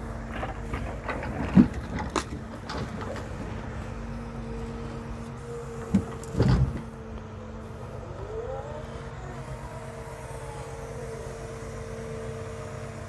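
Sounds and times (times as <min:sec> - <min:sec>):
engine and hydraulic pump humming: 0:00.0 - 0:13.0.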